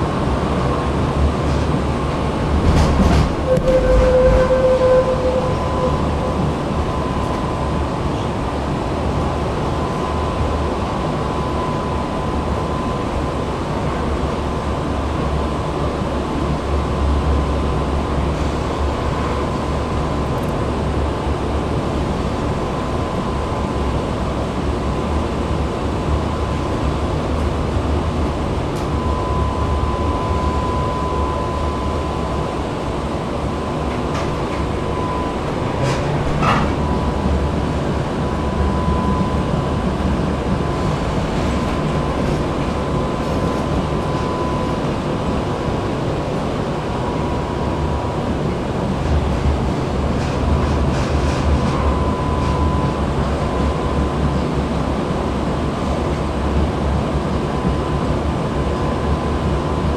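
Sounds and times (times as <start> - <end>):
tram wheels rumbling on rails: 0.0 - 59.9
high whine: 3.3 - 18.0, 18.8 - 55.9.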